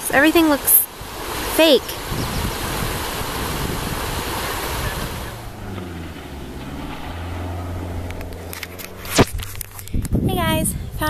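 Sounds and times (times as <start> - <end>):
river rushing over rocks: 0.0 - 9.3.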